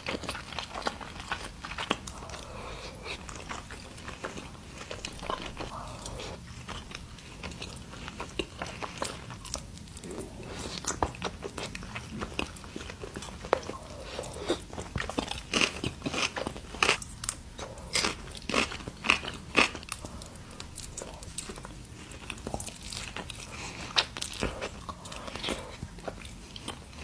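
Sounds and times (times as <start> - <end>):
chewing and crunching food: 0.0 - 27.0.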